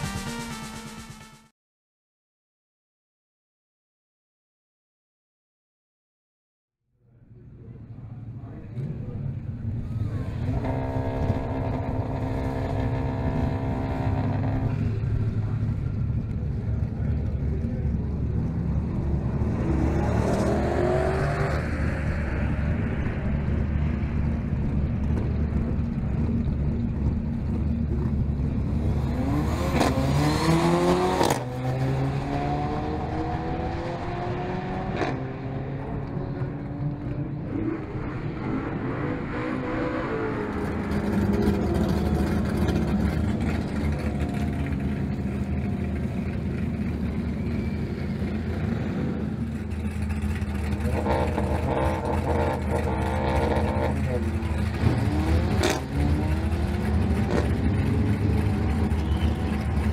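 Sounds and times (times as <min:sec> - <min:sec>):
car engine accelerating through gears: 0:09.8 - 0:59.9.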